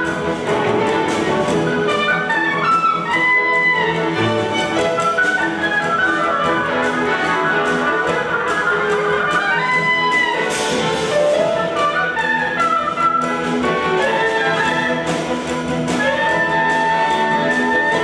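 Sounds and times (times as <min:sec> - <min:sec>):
drum kit beat: 0:00.0 - 0:18.0
string ensemble: 0:00.0 - 0:18.0
oboe solo: 0:01.4 - 0:15.3, 0:15.9 - 0:18.0.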